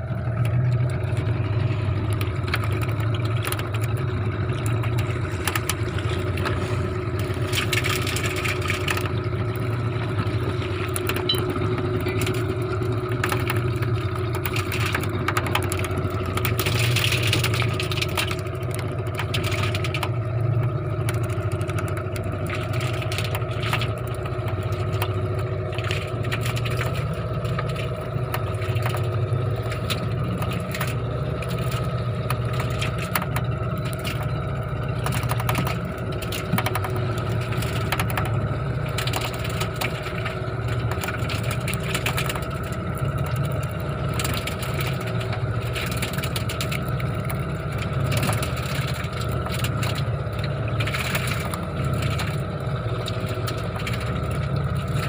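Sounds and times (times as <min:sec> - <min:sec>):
boat engine running: 0:00.0 - 0:55.0
crackles and knocks: 0:00.1 - 0:55.0.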